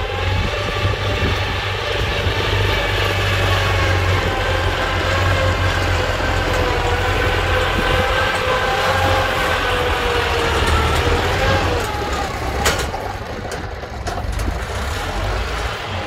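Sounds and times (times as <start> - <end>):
tracked carrier engine running: 0.0 - 16.0.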